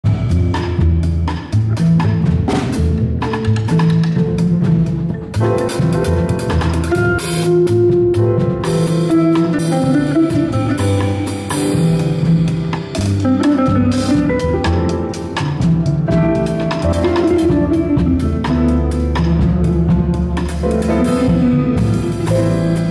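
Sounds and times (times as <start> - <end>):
double bass walking notes: 0.0 - 22.9.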